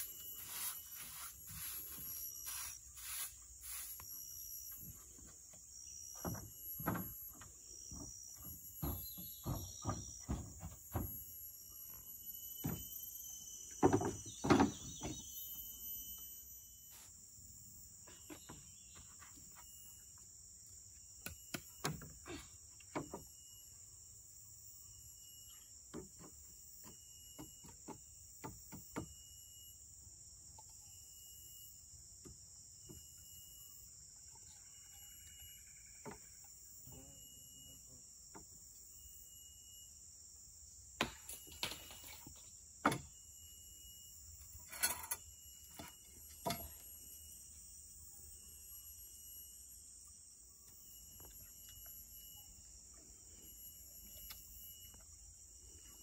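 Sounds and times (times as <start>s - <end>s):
high insect chorus: 0.0s - 56.0s.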